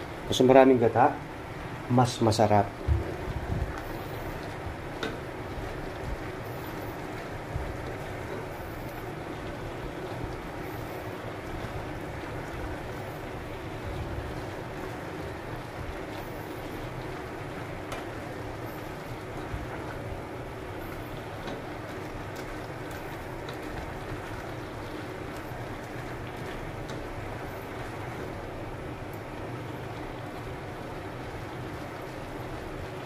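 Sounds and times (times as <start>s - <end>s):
gas burner rushing: 0.0s - 33.0s
pot simmering: 0.0s - 33.0s.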